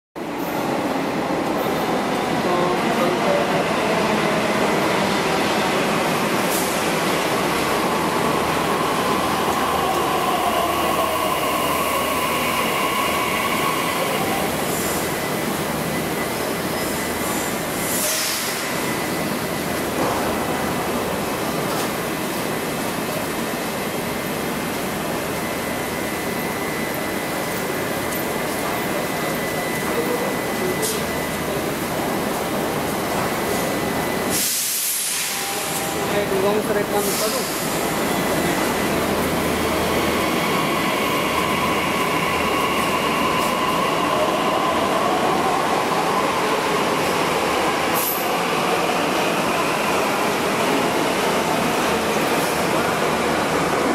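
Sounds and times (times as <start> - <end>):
metro train running: 0.2 - 53.9.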